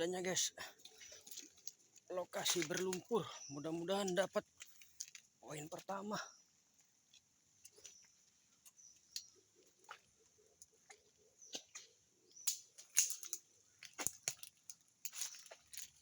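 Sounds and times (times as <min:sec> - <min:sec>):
footsteps through muddy undergrowth: 0:00.0 - 0:16.0.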